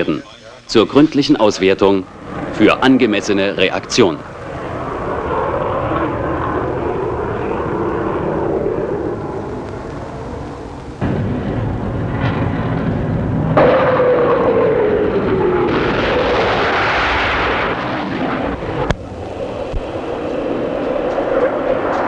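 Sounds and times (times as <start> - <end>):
jet passing with falling whine: 0.0 - 22.0
jet engines running on runway: 0.9 - 22.0
explosions rumbling: 1.5 - 22.0.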